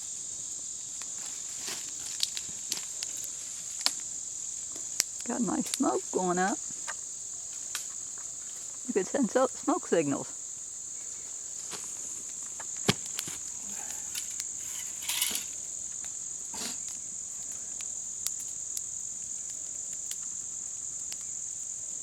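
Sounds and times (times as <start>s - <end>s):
insects chorus: 0.0s - 22.0s
wood fire popping and cracking: 0.4s - 9.0s, 10.5s - 22.0s.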